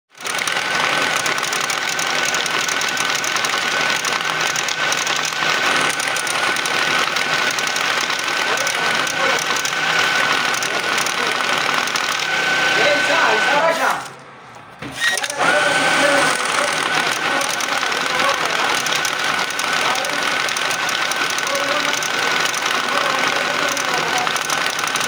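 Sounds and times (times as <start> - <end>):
banknote counter rattling: 0.1 - 12.3, 16.7 - 25.0.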